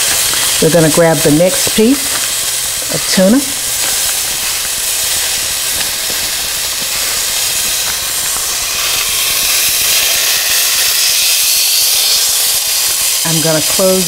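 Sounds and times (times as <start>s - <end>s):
faint crackles: 0.0s - 14.0s
fish searing in hot oil: 0.0s - 14.0s.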